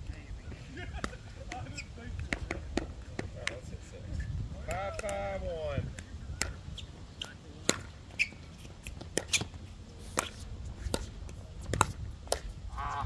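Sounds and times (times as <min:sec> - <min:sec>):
wind rumble on microphone: 0:00.0 - 0:07.2, 0:09.6 - 0:13.0.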